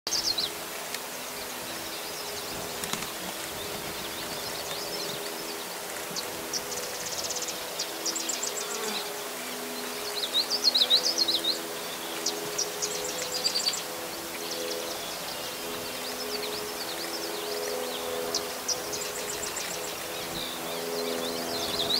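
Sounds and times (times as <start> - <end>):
small birds trilling and chirping: 0.1 - 21.9
buzz of insects: 0.2 - 21.9.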